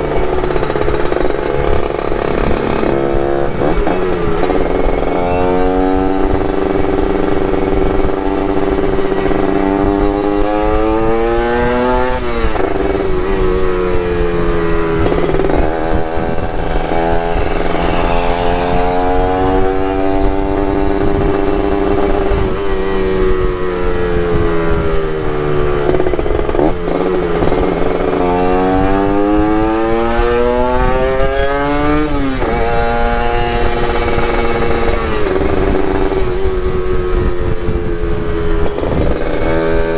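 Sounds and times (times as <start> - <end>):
two-stroke motorcycle engine revving: 0.0 - 39.9
wind rushing: 0.0 - 39.9.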